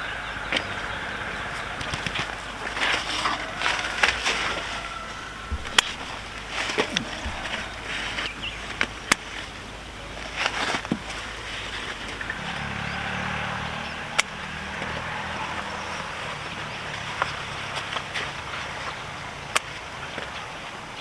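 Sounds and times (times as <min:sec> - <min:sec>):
low motor hum: 0:00.0 - 0:20.7.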